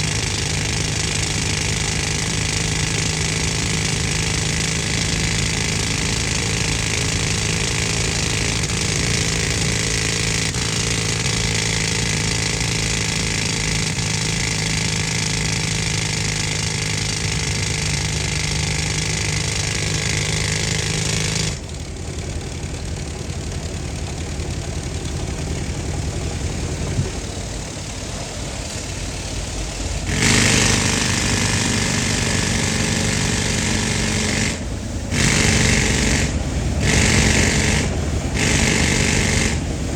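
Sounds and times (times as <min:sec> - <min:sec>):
pneumatic rock drill hammering: 0:00.0 - 0:39.9.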